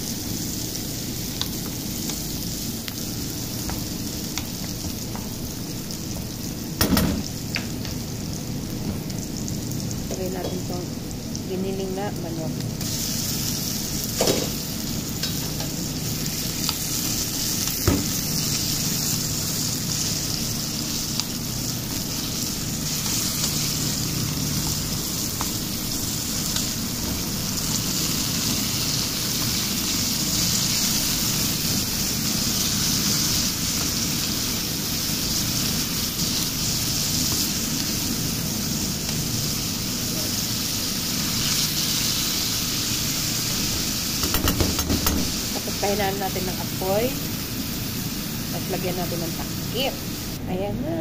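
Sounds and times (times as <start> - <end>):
meat sizzling in a pan: 0.0 - 12.0, 12.6 - 50.4.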